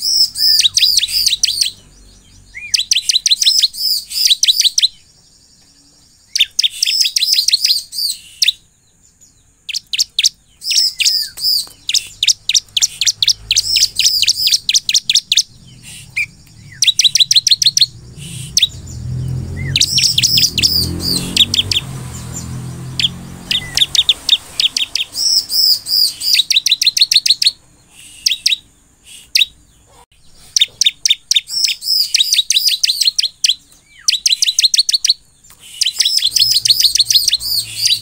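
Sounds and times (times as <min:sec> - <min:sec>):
bird chirping song: 0:00.0 - 0:38.0.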